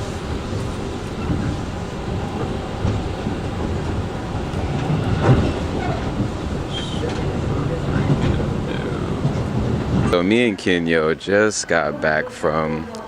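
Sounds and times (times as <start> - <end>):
train knock: 0.0 - 10.9
train wheels rumbling: 0.0 - 13.0.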